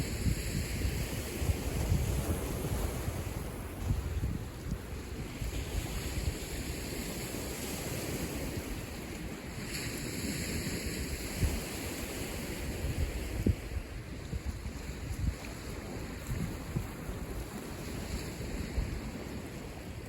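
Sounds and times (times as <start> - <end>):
waves washing against shore: 0.0 - 20.0
wind buffeting microphone: 0.0 - 20.0.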